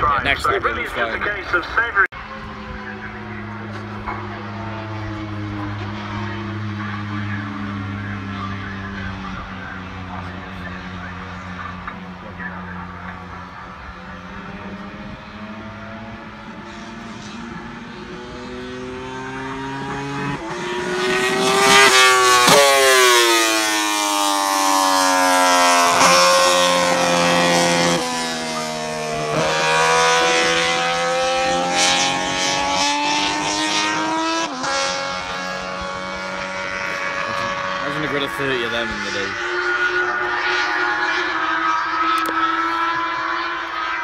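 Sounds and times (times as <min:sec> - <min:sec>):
racing motorcycles accelerating: 0:00.0 - 0:44.0.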